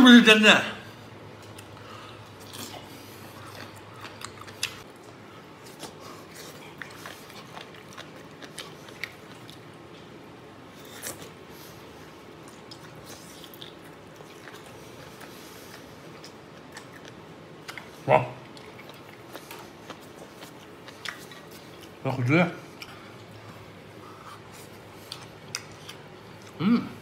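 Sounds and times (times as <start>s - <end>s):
person chewing food: 1.3s - 22.0s, 22.7s - 27.0s.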